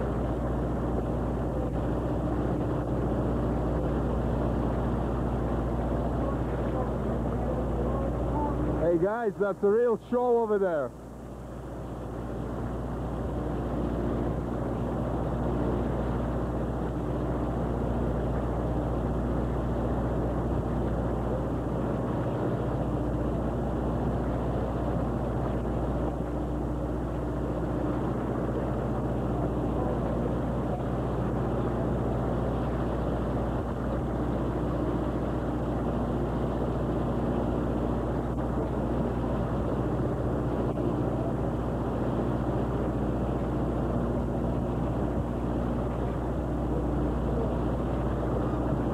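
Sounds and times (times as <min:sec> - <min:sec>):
boat engine droning: 0:00.0 - 0:48.9
faint steady hum: 0:00.0 - 0:48.9.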